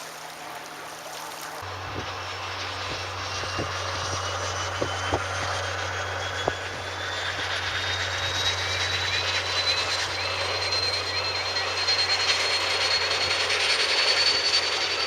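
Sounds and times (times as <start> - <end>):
propeller engine droning: 0.0 - 15.0.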